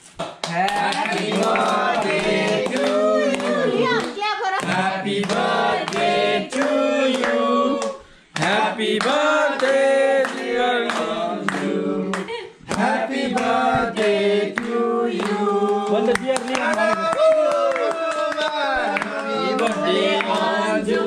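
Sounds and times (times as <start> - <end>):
group singing long notes: 0.5 - 16.2, 18.7 - 21.0.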